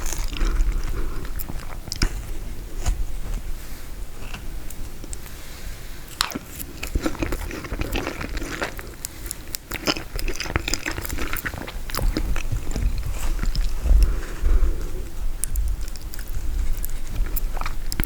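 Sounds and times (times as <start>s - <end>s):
chewing and biting frozen dessert: 0.0s - 3.6s, 4.2s - 18.0s.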